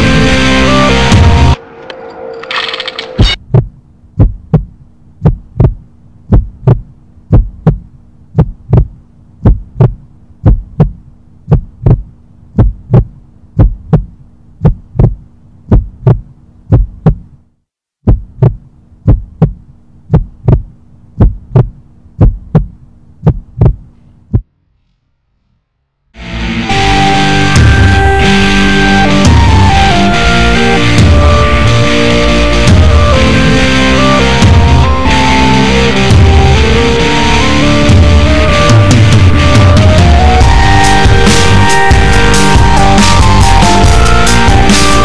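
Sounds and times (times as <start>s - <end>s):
low steady hum: 1.0s - 41.2s
heartbeat lub-dub: 3.3s - 17.4s, 18.0s - 24.5s, 26.7s - 45.0s.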